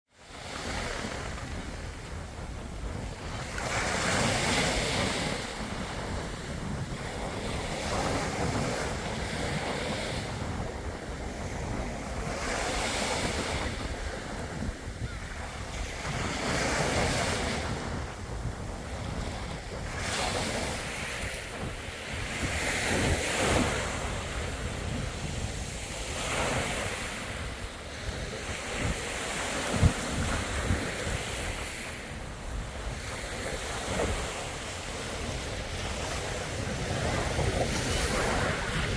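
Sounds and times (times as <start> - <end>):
sea waves breaking: 0.2 - 38.9
wind rumble on microphone: 0.2 - 38.9.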